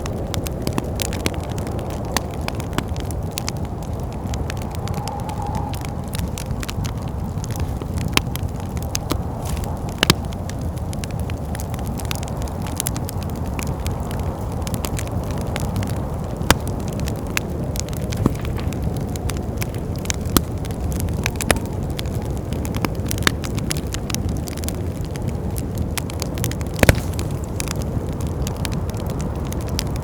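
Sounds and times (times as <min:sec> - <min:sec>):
low rumble of wind: 0:00.0 - 0:30.0
wood fire crackling and popping: 0:00.0 - 0:30.0.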